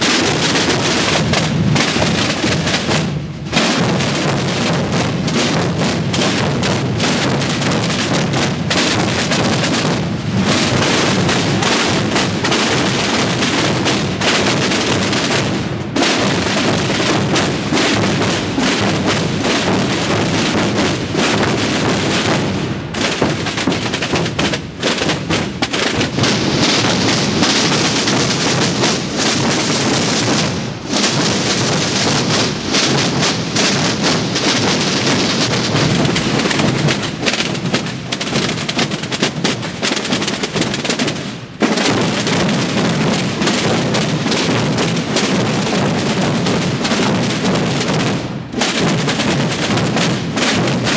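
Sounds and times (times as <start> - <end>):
drum corps playing: 0.0 - 50.9.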